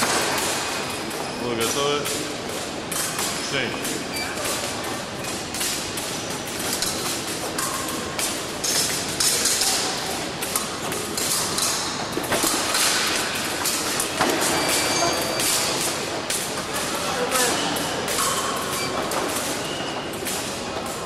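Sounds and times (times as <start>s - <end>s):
busy hall noise: 0.0s - 21.0s.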